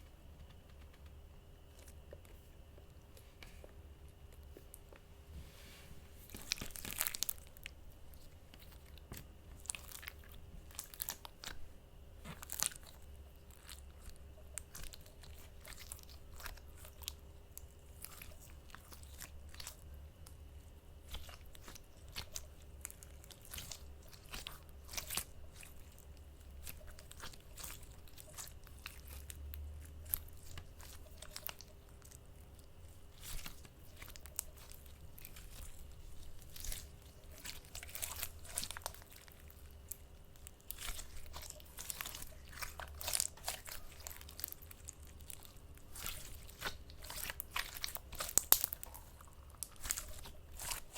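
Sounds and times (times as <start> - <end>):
faint low hum: 0.0 - 50.9
slime squished by hand: 6.1 - 50.9.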